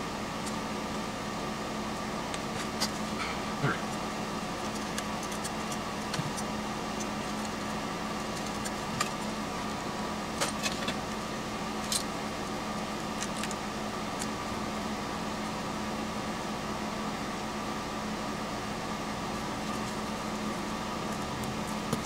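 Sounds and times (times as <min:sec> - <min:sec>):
machine hum and hiss: 0:00.0 - 0:22.0.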